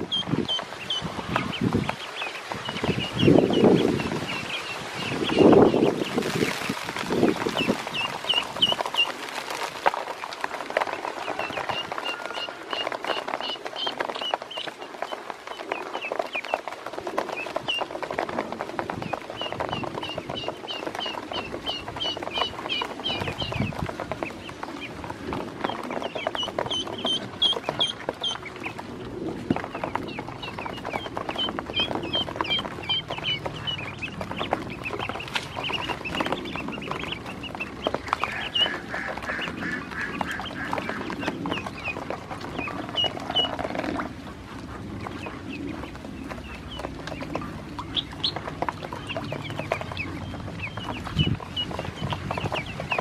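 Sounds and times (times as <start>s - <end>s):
bills pecking plastic basin: 0.0s - 53.0s
ducklings peeping: 0.0s - 53.0s.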